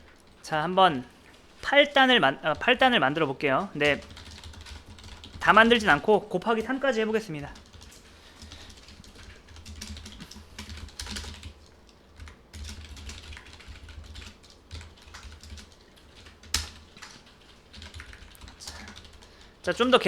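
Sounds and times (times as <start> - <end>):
computer keyboard typing: 0.0 - 20.0.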